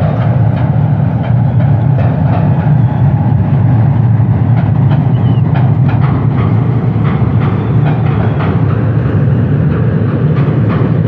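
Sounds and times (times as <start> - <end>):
train rumble: 0.0 - 11.0
wheels clicking over rail joints: 0.0 - 11.0.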